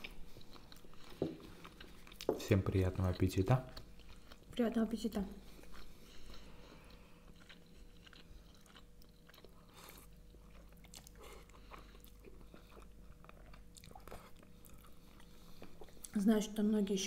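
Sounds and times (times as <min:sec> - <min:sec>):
people chewing noodles: 0:00.0 - 0:04.6, 0:05.4 - 0:16.2.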